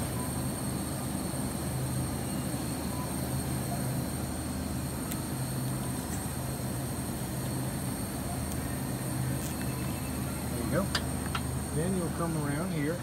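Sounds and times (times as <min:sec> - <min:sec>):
faint high whine: 0:00.0 - 0:13.0
low machine hum: 0:00.0 - 0:13.0.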